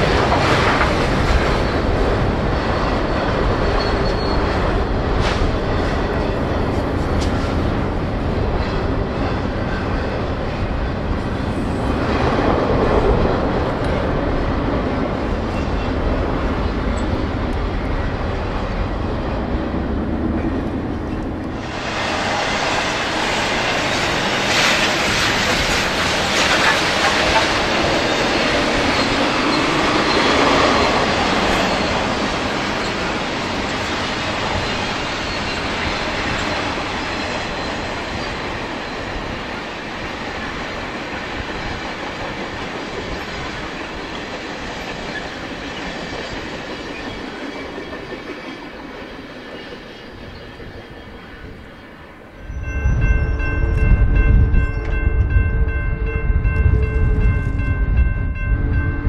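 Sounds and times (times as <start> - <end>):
train wheels clacking on rails: 0.0 - 51.6.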